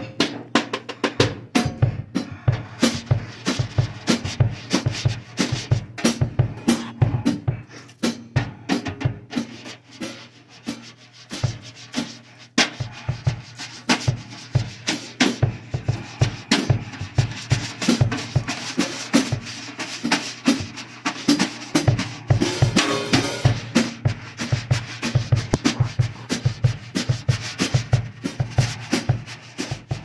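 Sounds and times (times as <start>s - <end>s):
drum kit playing a beat: 0.0s - 30.0s.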